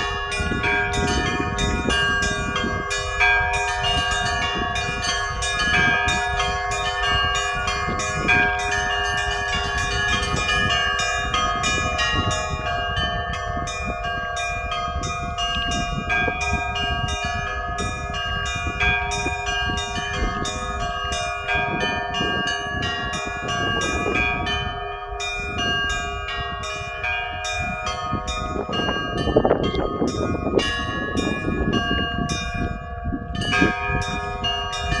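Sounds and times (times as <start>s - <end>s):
larger bells ringing: 0.0s - 35.0s
small high bells struck rapidly: 0.0s - 35.0s.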